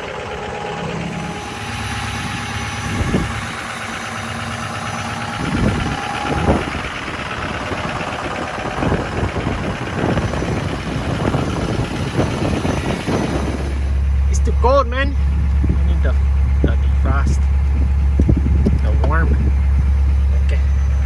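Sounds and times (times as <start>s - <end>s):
diesel engine idling with knocks: 0.0s - 21.0s
low hum: 0.0s - 21.0s
steady whine: 0.0s - 21.0s.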